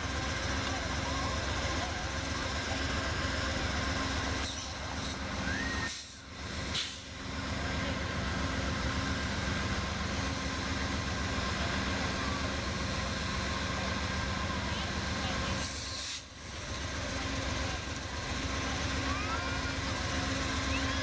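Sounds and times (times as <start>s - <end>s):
diesel locomotive engine idling: 0.0s - 21.0s.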